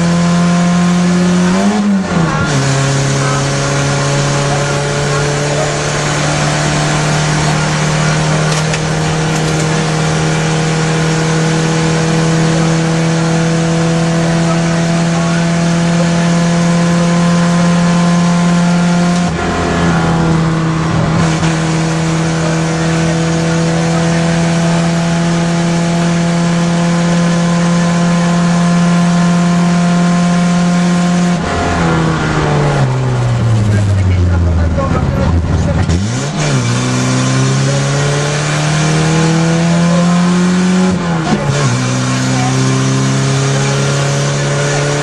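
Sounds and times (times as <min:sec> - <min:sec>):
car engine at high revs: 0:00.0 - 0:45.0.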